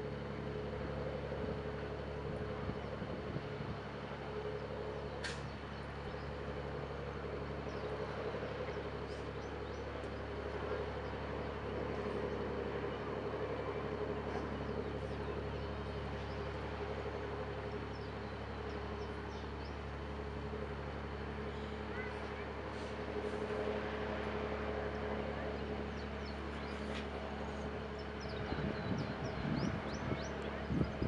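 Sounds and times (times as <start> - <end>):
distant traffic and machinery hum: 0.0 - 31.0.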